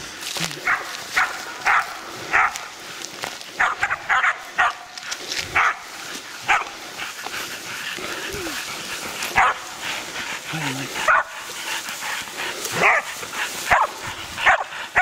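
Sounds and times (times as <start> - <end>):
dogs barking: 0.6 - 2.8, 3.5 - 15.0.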